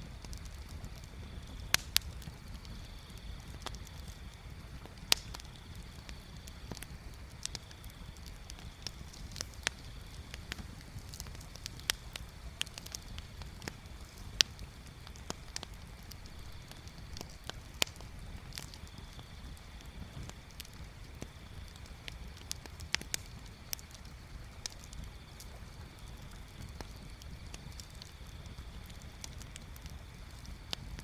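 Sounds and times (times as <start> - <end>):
bonfire crackling and popping: 0.0 - 31.0
fire low rumble: 0.0 - 31.0.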